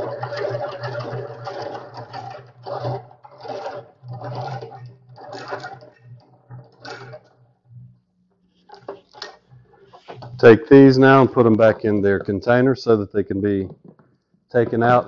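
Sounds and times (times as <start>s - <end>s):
hand-cranked extractor gearing whirring: 0.0s - 7.6s, 8.6s - 13.0s.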